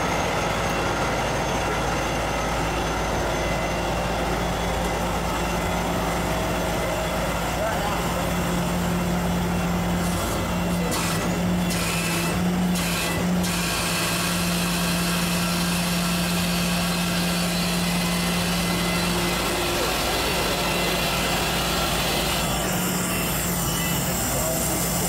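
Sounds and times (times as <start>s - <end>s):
steady engine drone: 0.0s - 25.0s.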